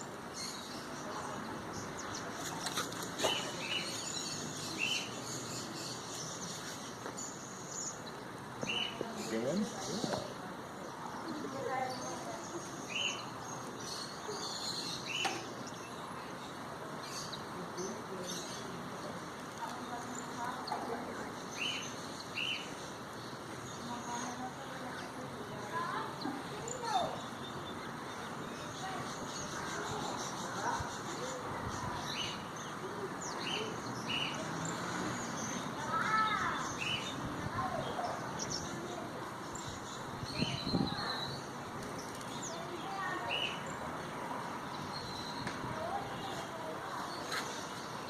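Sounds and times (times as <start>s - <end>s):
canaries chirping: 0.0s - 48.0s.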